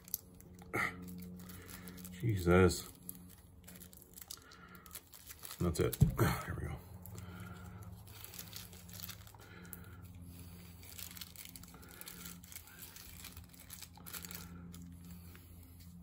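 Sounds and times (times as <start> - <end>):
low steady hum: 0.0 - 16.0
packaging crinkling: 0.0 - 16.0.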